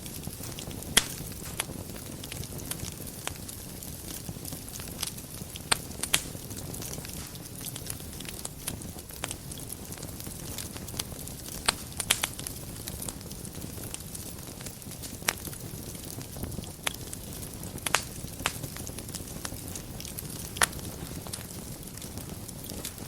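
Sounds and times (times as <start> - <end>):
fire rumbling: 0.0 - 23.0
wood fire crackling and popping: 0.0 - 23.0.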